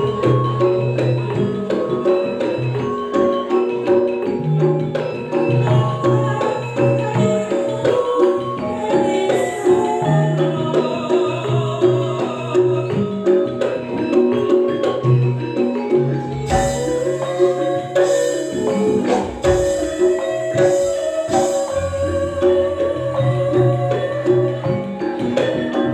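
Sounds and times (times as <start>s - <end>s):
gamelan metallophones and drums: 0.0s - 25.9s.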